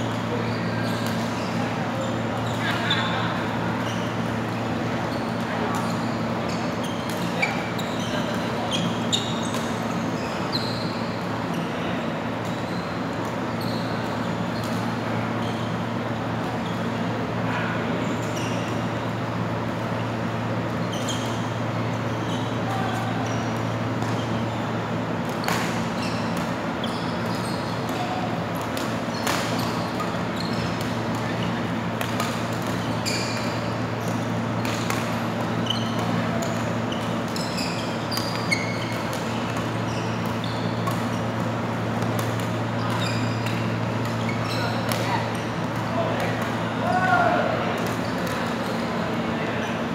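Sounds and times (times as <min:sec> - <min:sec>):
shoes squeaking on court floor: 0:00.0 - 0:49.9.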